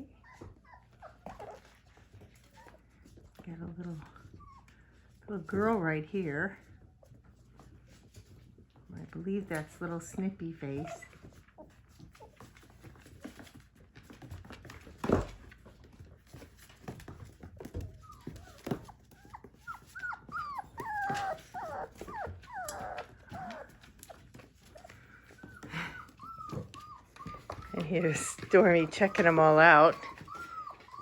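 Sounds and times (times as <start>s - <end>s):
puppies whining: 0.0s - 3.2s, 4.0s - 5.8s, 10.0s - 31.0s.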